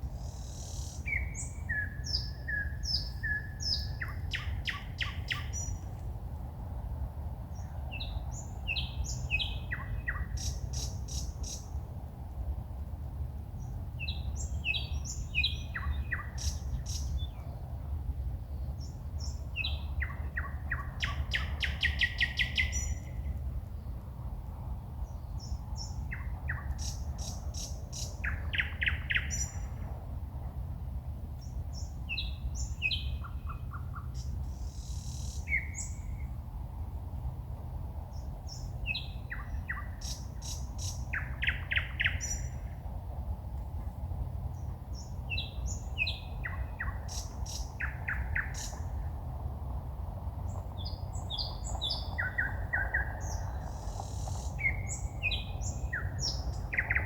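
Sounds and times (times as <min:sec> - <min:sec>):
songbird singing: 0:00.0 - 0:06.1, 0:07.4 - 0:12.0, 0:13.5 - 0:24.2, 0:24.9 - 0:30.0, 0:31.3 - 0:36.4, 0:38.0 - 0:42.9, 0:44.5 - 0:49.4, 0:50.4 - 0:57.0
steady low rumble: 0:00.0 - 0:57.0.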